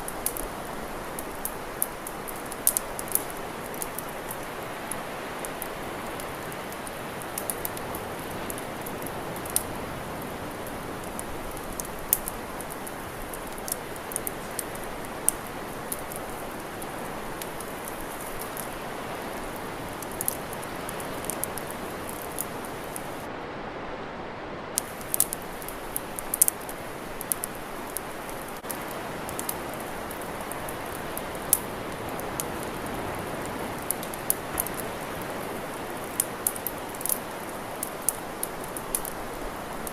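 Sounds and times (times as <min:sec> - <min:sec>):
campfire crackling: 0:00.0 - 0:23.3, 0:24.8 - 0:39.9.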